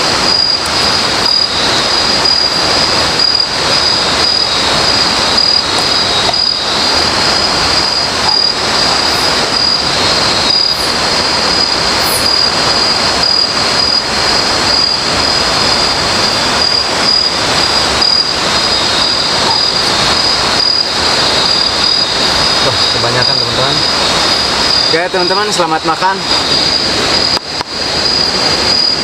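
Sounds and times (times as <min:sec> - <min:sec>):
insects chirping chorus: 0:00.0 - 0:29.0
river water rushing: 0:00.0 - 0:29.0.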